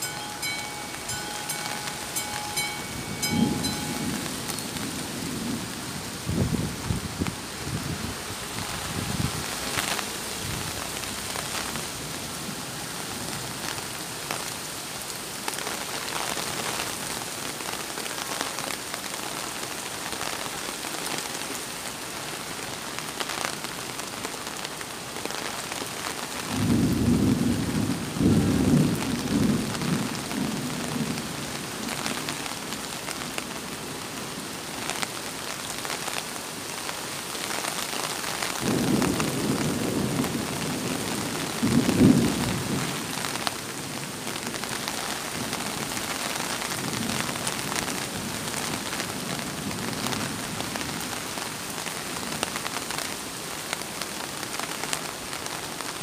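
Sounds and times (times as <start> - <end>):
heavy rain on wet road: 0.0 - 56.0.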